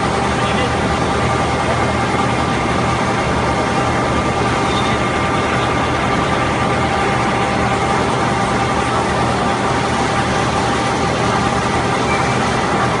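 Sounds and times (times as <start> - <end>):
industrial hum and rush: 0.0 - 13.0.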